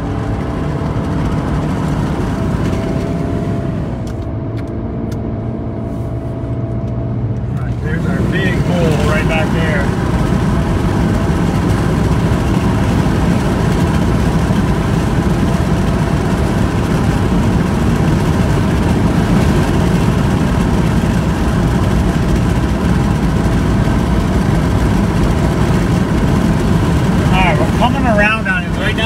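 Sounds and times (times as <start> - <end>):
car engine hum: 0.0 - 29.0
road noise inside car: 0.0 - 29.0.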